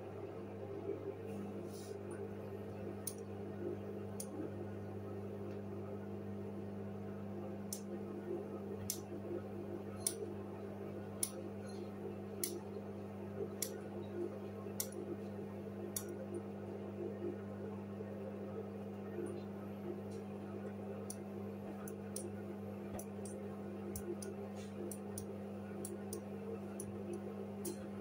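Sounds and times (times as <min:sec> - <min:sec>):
washing machine motor hum: 0:00.0 - 0:28.0.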